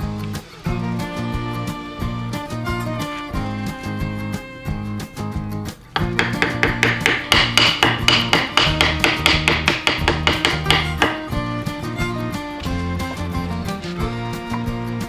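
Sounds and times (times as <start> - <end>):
guitar music: 0.0 - 15.0
fast sharp taps: 2.7 - 15.0.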